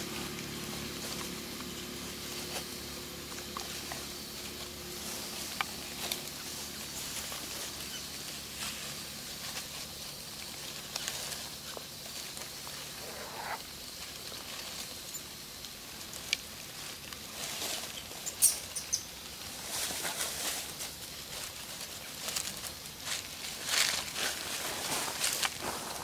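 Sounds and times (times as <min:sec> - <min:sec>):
dry leaves rustling and crackling: 0:00.0 - 0:26.0
faint low hum: 0:00.0 - 0:26.0.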